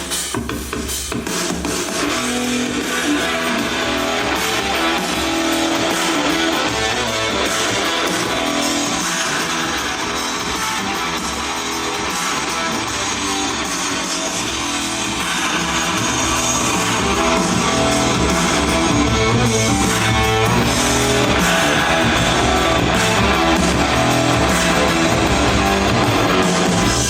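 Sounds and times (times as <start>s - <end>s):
guitar music through speaker: 1.5s - 27.0s.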